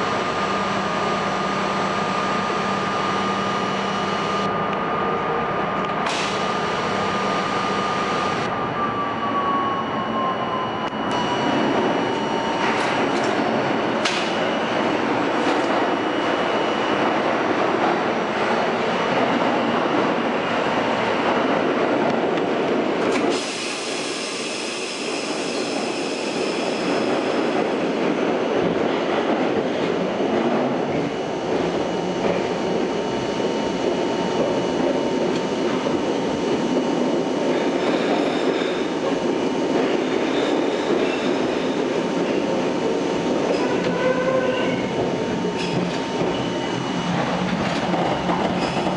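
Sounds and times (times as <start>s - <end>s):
subway wheels rumbling on rail: 0.0s - 48.9s.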